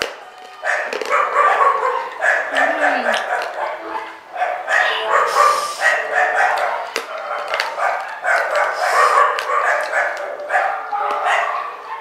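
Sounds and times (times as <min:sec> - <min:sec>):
dog barking: 0:00.6 - 0:12.0.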